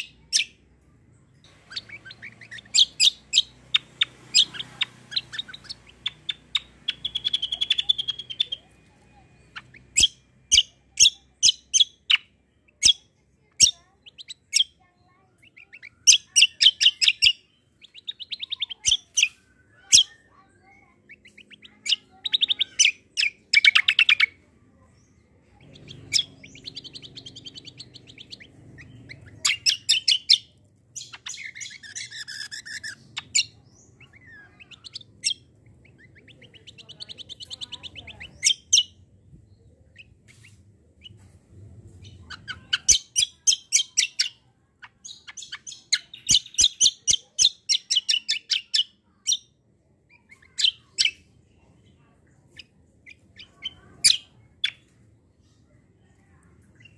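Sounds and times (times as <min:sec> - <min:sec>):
songbird chirping and trilling: 0:00.0 - 0:56.9.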